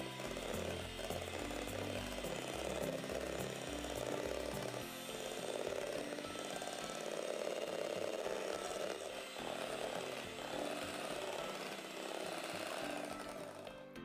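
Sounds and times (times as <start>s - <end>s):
electric hand mixer whipping: 0.0s - 14.0s.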